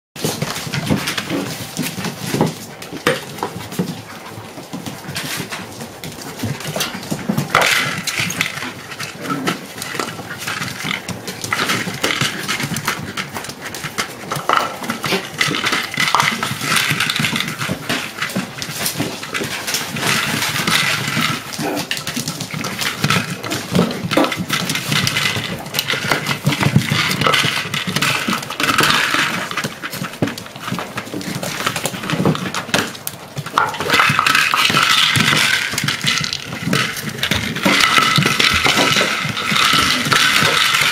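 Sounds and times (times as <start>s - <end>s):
claws scrabbling on parquet floor: 0.2s - 40.9s
puppies growling and yapping: 0.2s - 40.9s.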